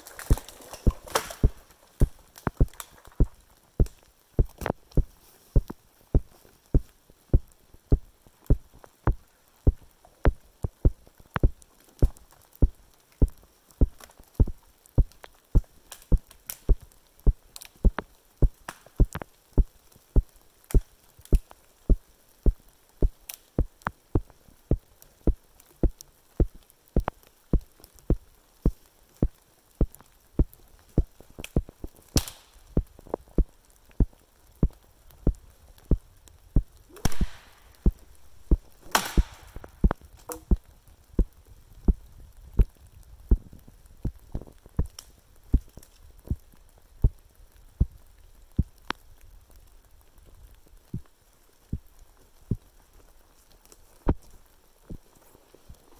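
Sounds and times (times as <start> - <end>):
branches crackling and rustling: 0.0 - 55.9.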